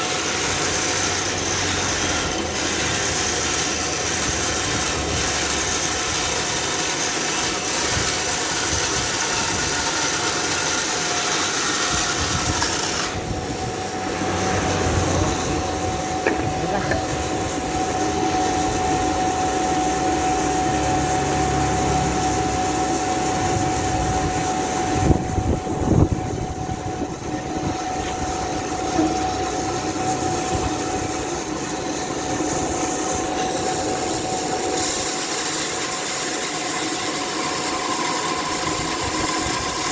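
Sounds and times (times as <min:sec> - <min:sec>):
chainsaw cutting log: 0:00.0 - 0:39.9
chainsaw engine running: 0:00.0 - 0:39.9.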